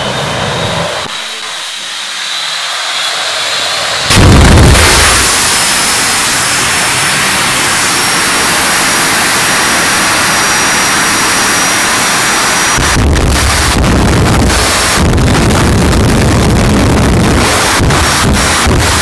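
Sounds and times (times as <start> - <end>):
jet engine rushing and whining: 0.0 - 19.0.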